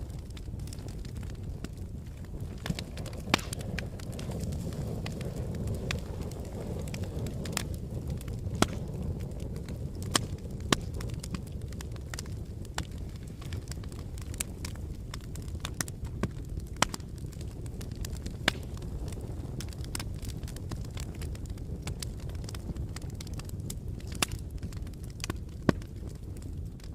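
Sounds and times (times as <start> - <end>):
crackling and popping logs: 0.0 - 26.9
wood fire burning: 0.0 - 26.9.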